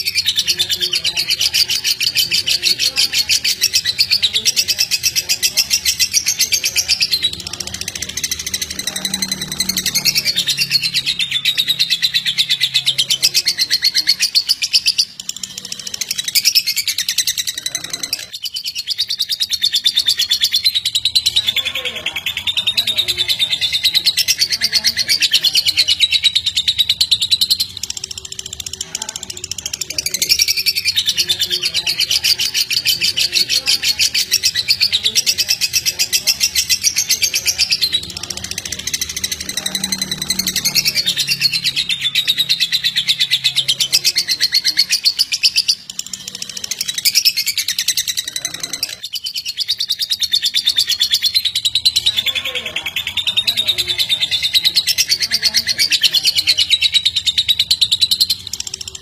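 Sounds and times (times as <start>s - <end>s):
lovebird chattering trill: 0.0s - 59.0s.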